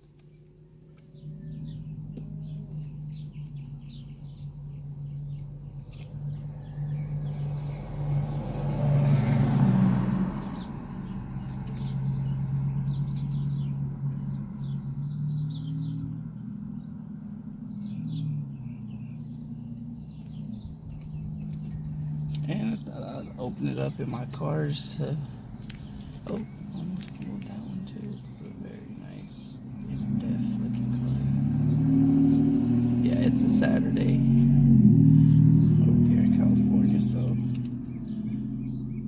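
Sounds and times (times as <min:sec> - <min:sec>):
steady low hum: 0:00.0 - 0:08.8, 0:10.1 - 0:39.0
small birds chirping: 0:00.0 - 0:39.0
car passing close by: 0:06.2 - 0:39.0.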